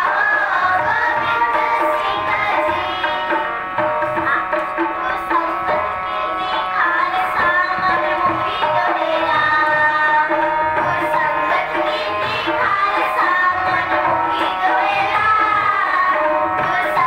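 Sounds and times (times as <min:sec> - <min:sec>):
children singing together: 0:00.0 - 0:17.0
tabla beating a rhythm: 0:00.0 - 0:17.0.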